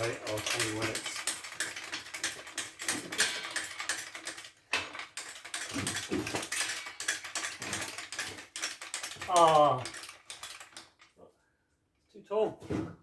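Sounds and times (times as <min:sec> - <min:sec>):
hand tools clicking and rattling: 0:00.0 - 0:11.2.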